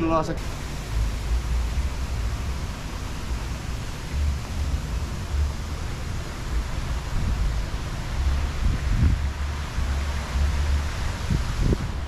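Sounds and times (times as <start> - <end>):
steady hiss: 0.0 - 12.0
wind buffeting microphone: 0.5 - 12.0.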